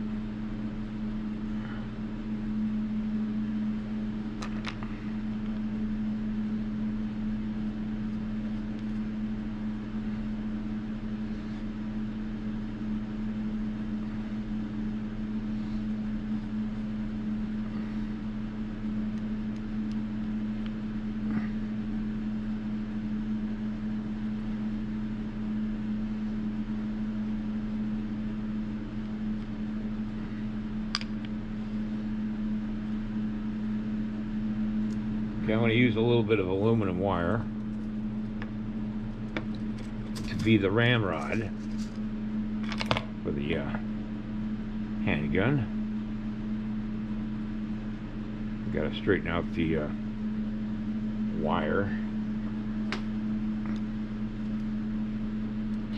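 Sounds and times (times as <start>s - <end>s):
steady machine hum: 0.0s - 55.9s.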